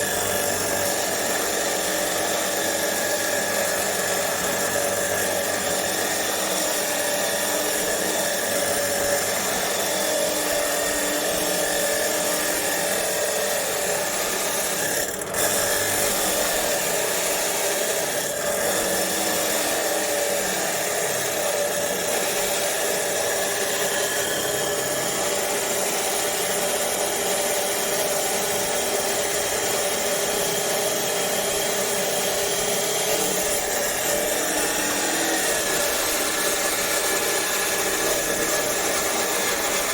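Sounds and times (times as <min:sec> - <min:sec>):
electric chop saw running: 0:00.0 - 0:39.9.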